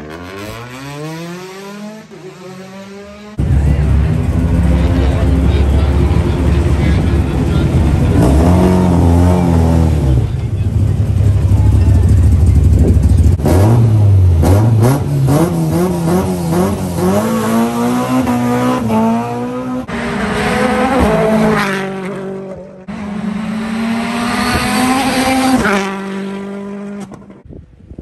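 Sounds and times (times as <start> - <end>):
rally car engines at full throttle: 0.0 - 27.5.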